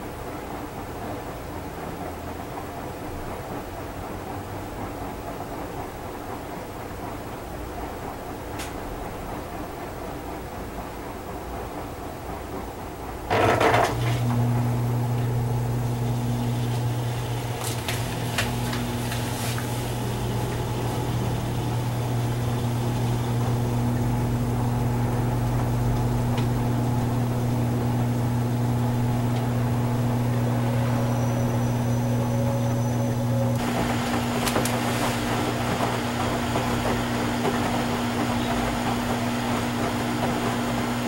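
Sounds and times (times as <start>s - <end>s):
washing machine humming: 0.0s - 41.0s.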